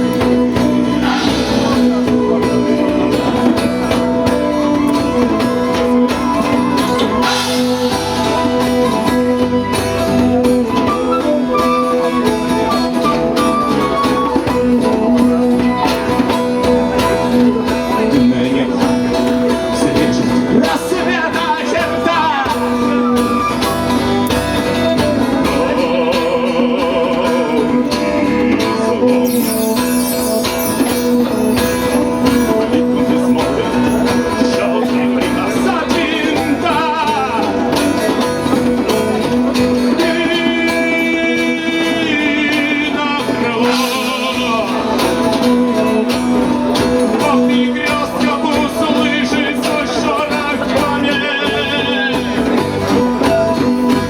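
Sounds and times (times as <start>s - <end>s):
person singing: 0.0s - 23.8s, 25.0s - 54.0s
plucked strings: 0.0s - 54.0s.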